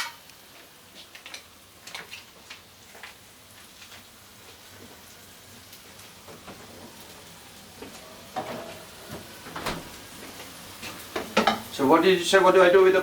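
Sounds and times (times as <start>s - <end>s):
butter sizzling in frying pan: 0.0s - 13.0s.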